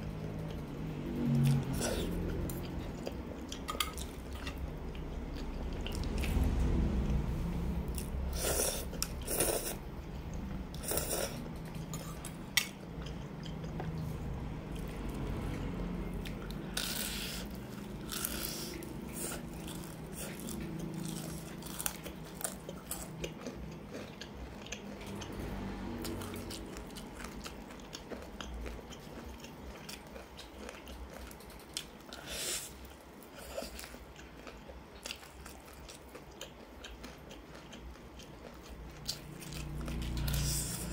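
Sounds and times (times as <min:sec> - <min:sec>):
chewing: 0:00.3 - 0:06.5, 0:07.9 - 0:40.9.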